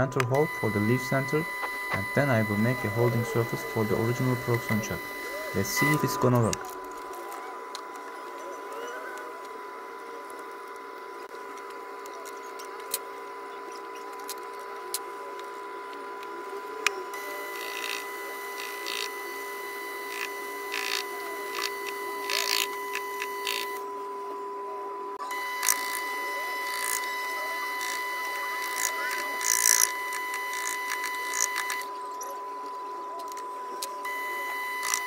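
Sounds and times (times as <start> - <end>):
lathe electric whine: 0.0 - 35.0.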